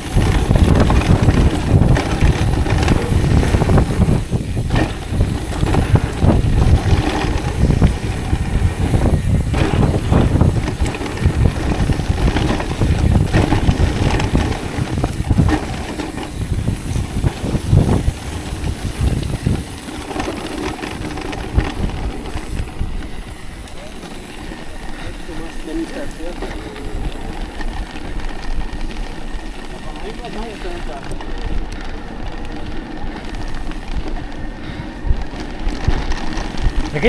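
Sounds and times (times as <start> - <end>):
bike knocking over bumps: 0.0 - 37.0
bike tyres rolling on dirt: 0.0 - 37.0
wind buffeting microphone: 0.0 - 37.0.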